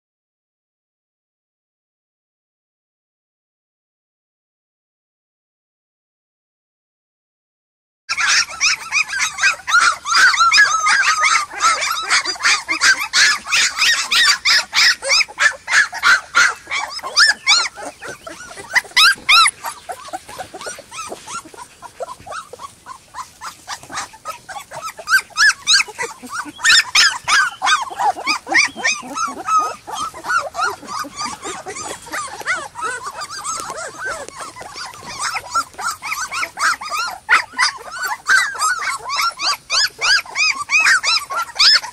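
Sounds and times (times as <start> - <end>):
puppies whining and yelping: 8.1 - 41.9.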